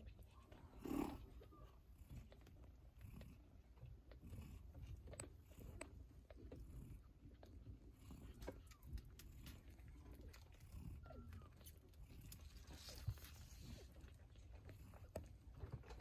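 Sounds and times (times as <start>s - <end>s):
kittens suckling wet smacking: 0.0s - 16.0s.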